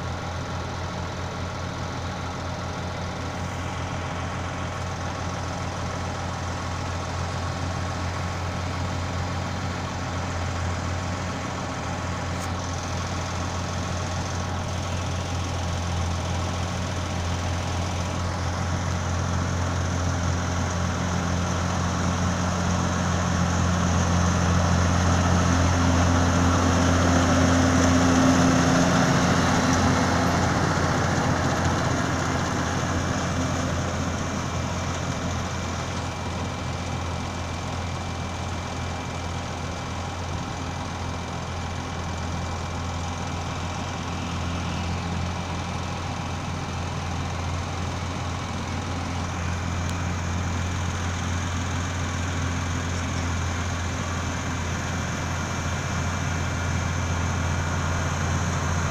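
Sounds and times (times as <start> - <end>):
tractor engine humming: 0.0 - 58.9.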